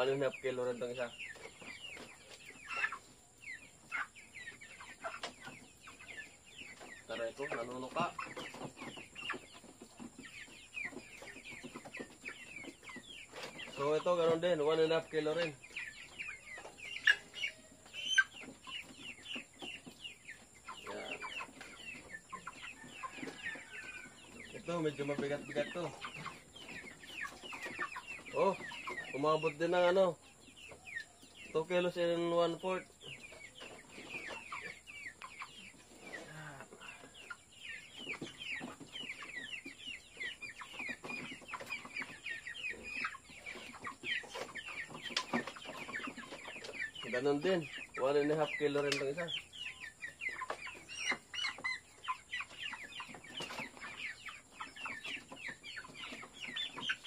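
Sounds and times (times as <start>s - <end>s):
chicks peeping and chirping: 0.0s - 57.0s.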